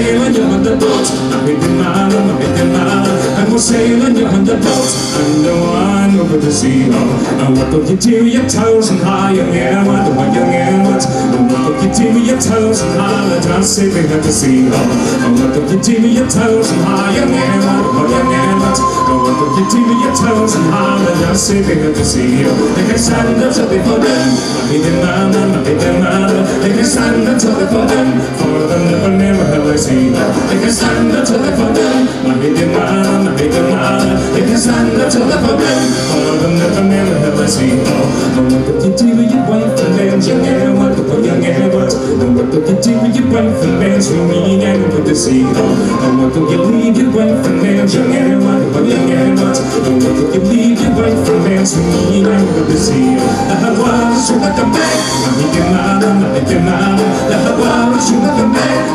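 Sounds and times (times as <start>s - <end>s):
folk band playing: 0.0s - 58.9s.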